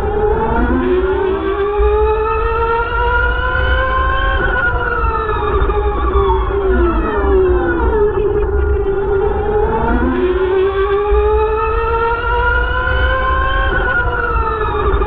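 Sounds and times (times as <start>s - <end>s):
electric car drivetrain whine: 0.0s - 15.0s
low rumble: 0.0s - 15.0s.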